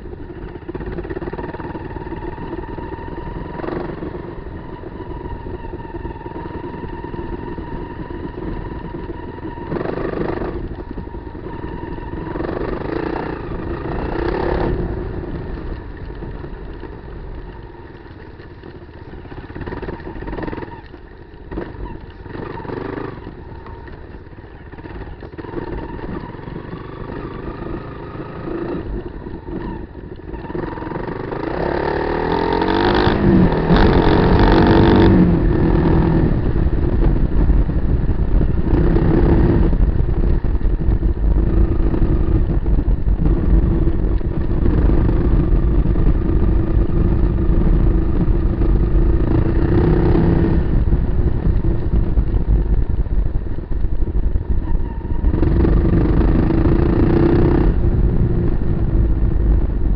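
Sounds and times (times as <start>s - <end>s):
engine knocks and clatter: 0.0s - 59.9s
motorcycle engine revving: 0.0s - 59.9s.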